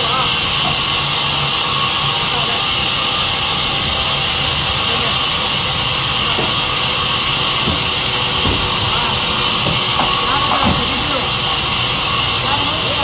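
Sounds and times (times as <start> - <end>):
sawmill saw whirring: 0.0 - 13.0.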